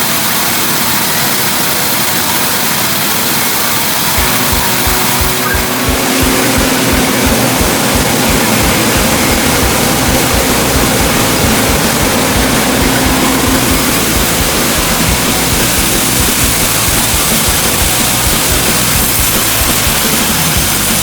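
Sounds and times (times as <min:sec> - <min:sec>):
sawmill mechanical noise: 0:00.0 - 0:21.0
engine beat: 0:04.0 - 0:21.0.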